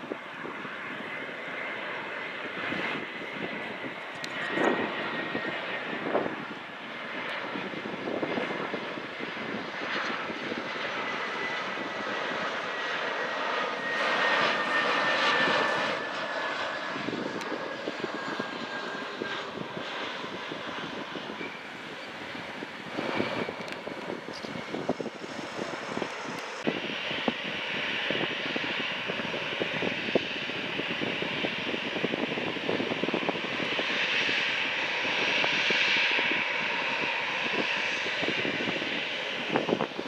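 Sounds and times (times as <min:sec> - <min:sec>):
airliner flying past: 0:00.0 - 0:40.0.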